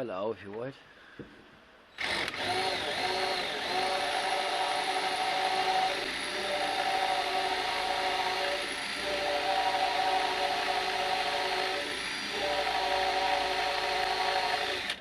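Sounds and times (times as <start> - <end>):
electric drill boring into steel: 2.0 - 15.0.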